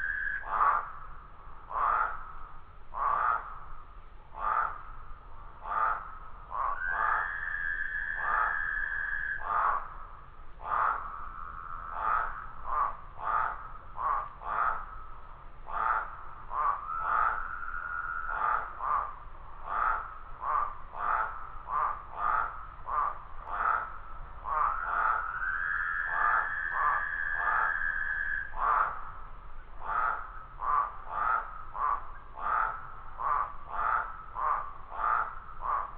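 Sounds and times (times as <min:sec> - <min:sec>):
frogs croaking in chorus: 0:00.0 - 0:35.9.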